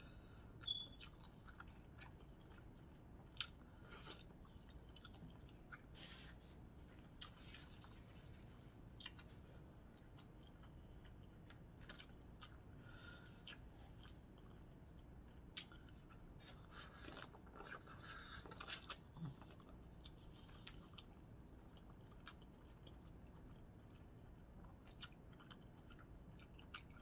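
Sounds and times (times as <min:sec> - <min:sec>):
person chewing: 0:00.4 - 0:27.0.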